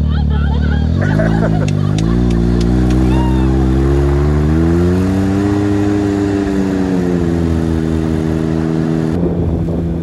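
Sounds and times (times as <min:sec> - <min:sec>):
engine accelerating: 0:00.0 - 0:10.0.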